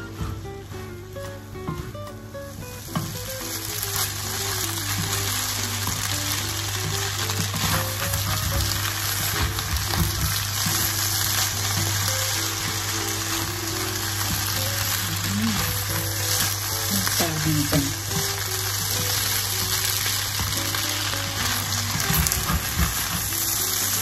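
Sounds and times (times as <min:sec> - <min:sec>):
food sizzling in a wok: 0:00.0 - 0:24.0
wooden spatula tossing food: 0:02.8 - 0:24.0.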